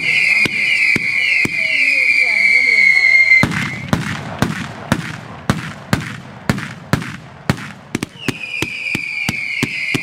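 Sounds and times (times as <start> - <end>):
firecrackers exploding: 0.0 - 10.0.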